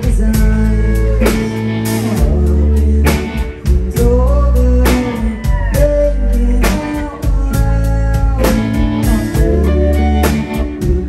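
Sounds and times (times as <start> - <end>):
bass guitar: 0.0 - 11.0
drum kit beat: 0.0 - 11.0
electric guitars: 0.0 - 11.0.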